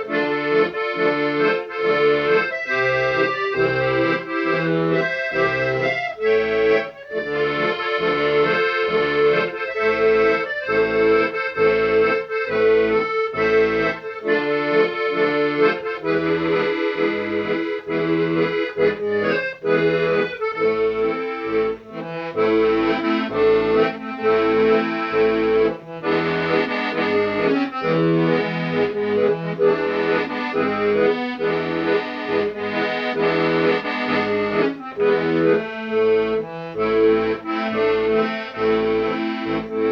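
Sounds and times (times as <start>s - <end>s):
held melody notes: 0.0s - 39.9s
pulsing bass accompaniment: 0.0s - 39.9s.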